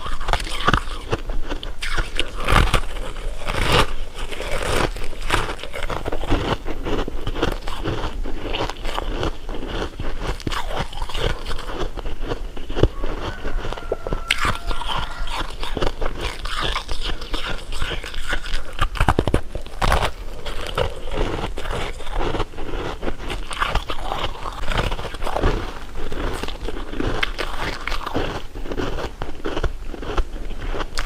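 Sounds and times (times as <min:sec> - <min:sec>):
crunchy candy chewing: 0:00.0 - 0:31.0.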